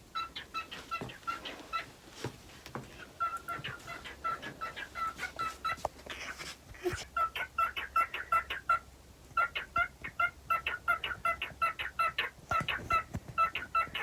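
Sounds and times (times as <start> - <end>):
cockatiel chirping: 0.1 - 1.9, 3.2 - 6.4, 7.2 - 8.8, 9.4 - 14.0.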